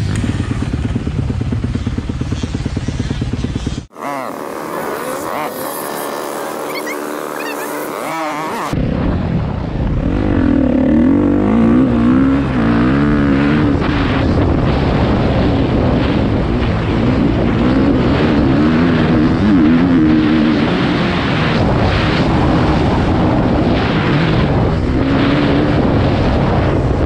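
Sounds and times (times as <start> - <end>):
dirt bike engine revving: 0.0 - 9.0, 9.8 - 27.0.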